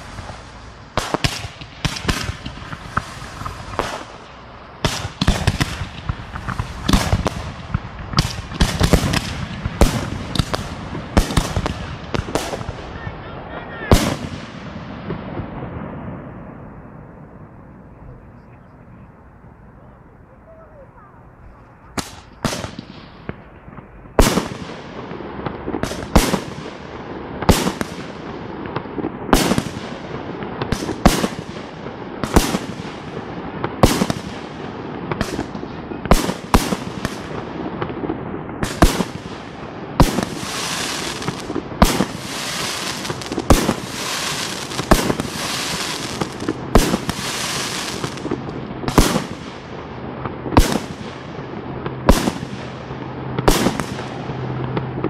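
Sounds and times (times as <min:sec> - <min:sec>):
continuous hiss: 0:00.0 - 0:55.0
fireworks bursting: 0:00.0 - 0:55.0.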